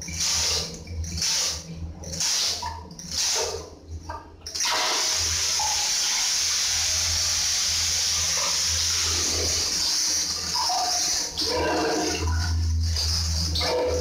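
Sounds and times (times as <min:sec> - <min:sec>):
water spraying into toilet bowl: 0:00.0 - 0:03.8, 0:04.5 - 0:14.0.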